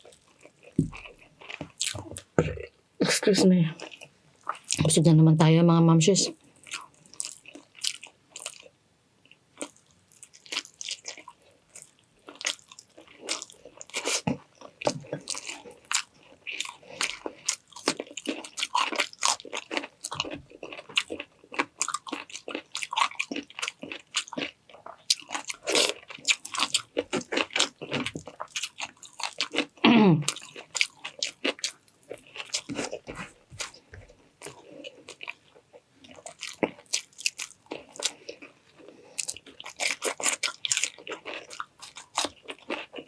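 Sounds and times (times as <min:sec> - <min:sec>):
person chewing crunchy food: 0:00.0 - 0:02.7, 0:03.8 - 0:04.9, 0:06.4 - 0:43.0.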